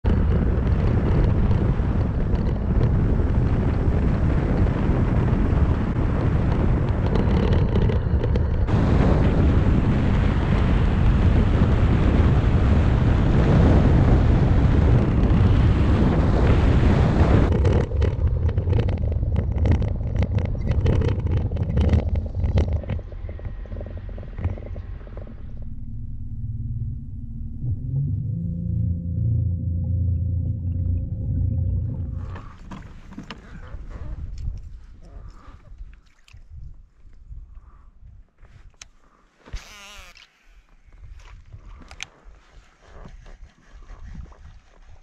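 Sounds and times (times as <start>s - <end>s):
wind buffeting microphone: 0.0s - 38.8s, 40.8s - 45.0s.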